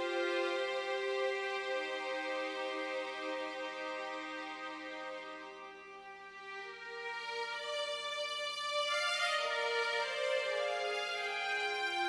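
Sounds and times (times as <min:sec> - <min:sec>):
music with slow held notes: 0:00.0 - 0:12.0.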